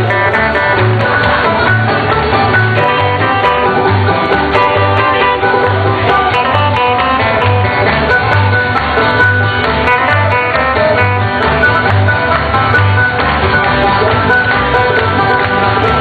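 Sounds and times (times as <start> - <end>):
guitar-led country music: 0.0 - 16.0.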